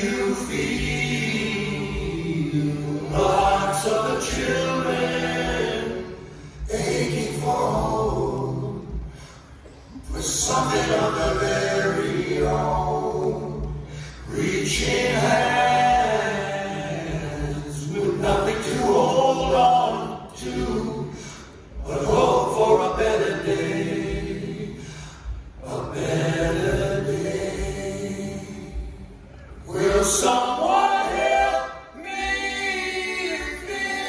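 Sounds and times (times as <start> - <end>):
men singing a cappella hymn: 0.0 - 34.0.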